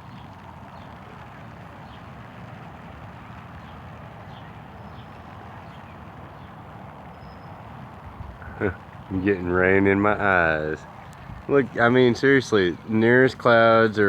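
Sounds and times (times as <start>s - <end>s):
light rain hissing: 0.0s - 14.0s.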